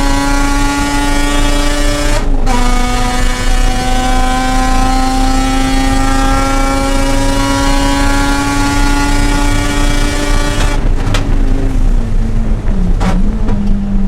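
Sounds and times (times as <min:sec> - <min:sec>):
rotary engine at full throttle: 0:00.0 - 0:14.0.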